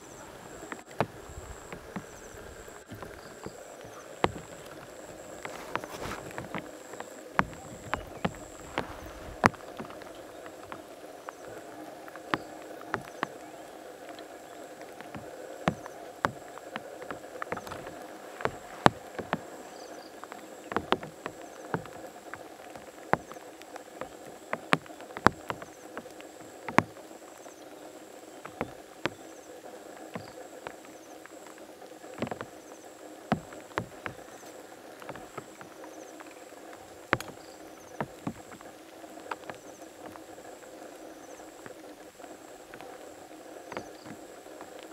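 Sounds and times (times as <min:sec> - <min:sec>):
insect chorus buzzing: 0:00.0 - 0:44.9.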